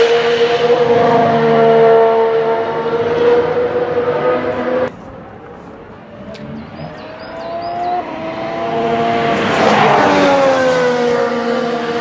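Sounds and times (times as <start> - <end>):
racing car engine passing by: 0.0 - 4.9, 6.0 - 12.0.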